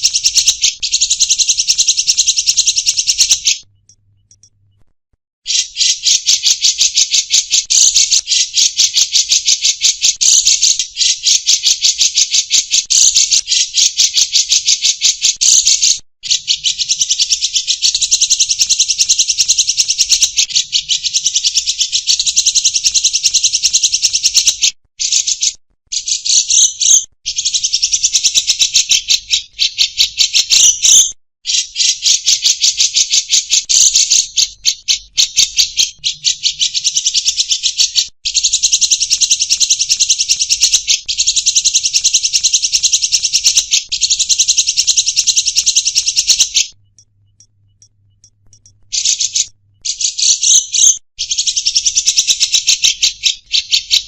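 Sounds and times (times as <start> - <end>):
caged songbirds buzzing trill: 0.0 - 4.6, 5.5 - 54.0.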